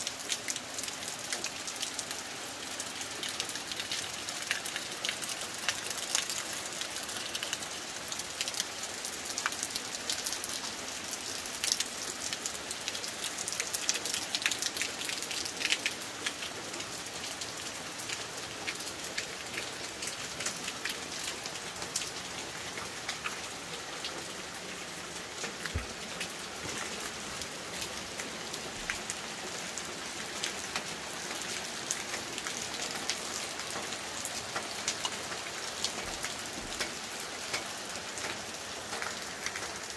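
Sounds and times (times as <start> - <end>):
raindrops hitting surfaces: 0.0 - 39.9
steady rain falling: 0.0 - 39.9.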